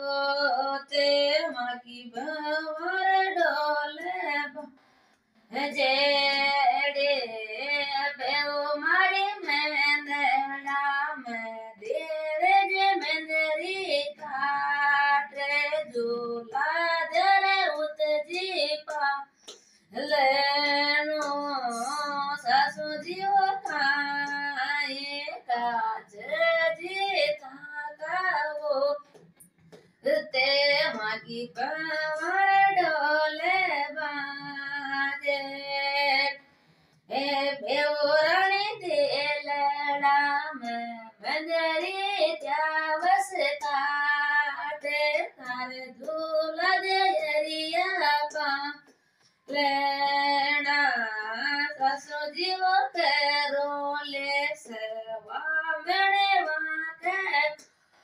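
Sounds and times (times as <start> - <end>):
woman singing unaccompanied: 0.0 - 4.8, 5.5 - 29.2, 29.9 - 36.4, 37.1 - 57.7.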